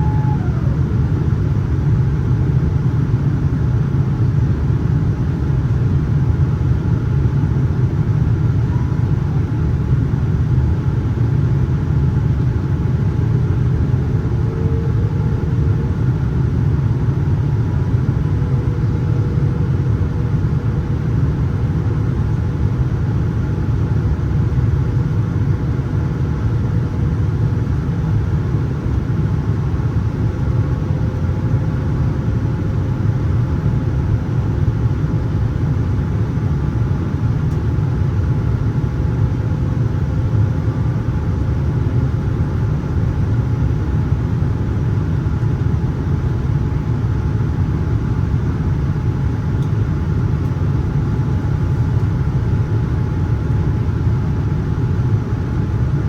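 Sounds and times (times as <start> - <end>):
airplane cabin rumble: 0.0 - 56.0
faint engine hum: 0.0 - 56.0.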